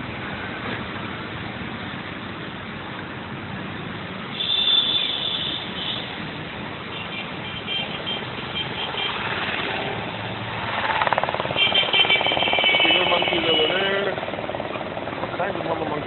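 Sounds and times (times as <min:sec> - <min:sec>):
distant traffic noise: 0:00.0 - 0:16.0.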